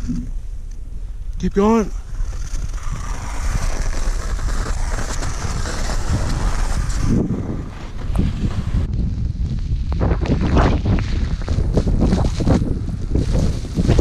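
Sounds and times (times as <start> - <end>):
wind buffeting microphone: 0.0 - 14.0
skis sliding on snow: 1.9 - 14.0.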